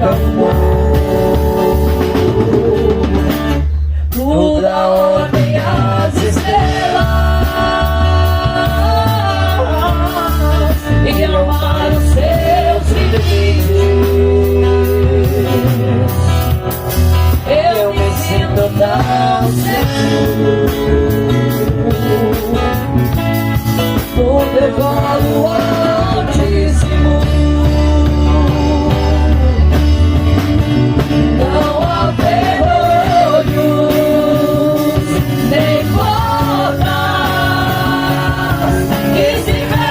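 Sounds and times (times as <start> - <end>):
person singing gospel: 0.0 - 16.6, 17.3 - 23.2, 24.0 - 29.9, 31.3 - 39.9
band with guitar: 0.0 - 39.9.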